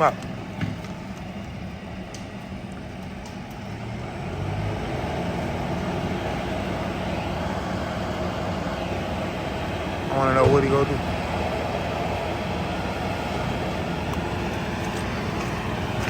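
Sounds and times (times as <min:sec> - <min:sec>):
steady engine noise: 0:00.0 - 0:16.0.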